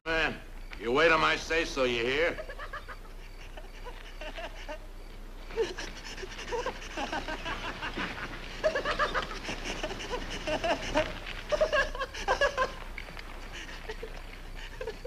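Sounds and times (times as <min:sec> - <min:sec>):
men laughing: 0:02.0 - 0:15.0.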